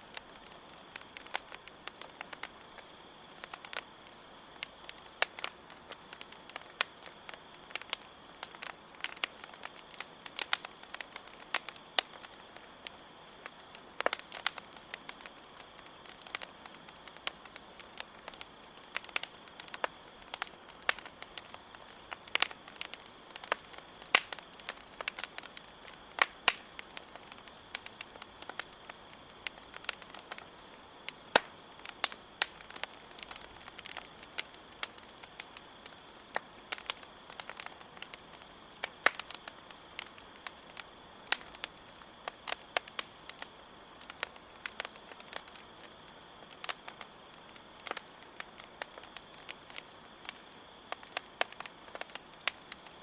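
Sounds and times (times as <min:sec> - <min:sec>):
campfire crackling and popping: 0:00.0 - 0:53.0
crickets chirring: 0:00.0 - 0:53.0.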